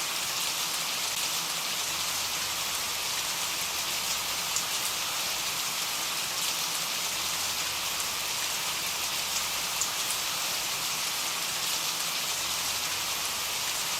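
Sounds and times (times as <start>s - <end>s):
steady rain hiss: 0.0s - 13.9s.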